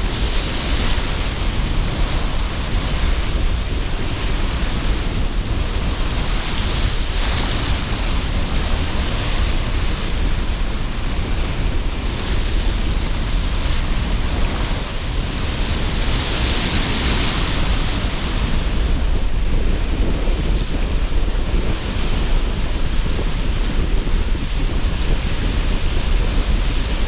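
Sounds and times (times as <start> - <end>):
sea surf roaring: 0.0 - 27.0
strong wind rumble: 0.0 - 27.0
waves washing in: 0.0 - 27.0.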